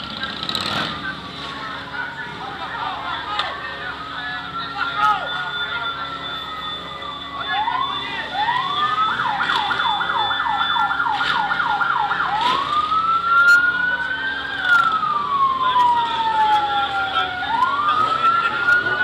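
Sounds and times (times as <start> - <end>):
siren wailing and warbling: 1.9 - 19.0.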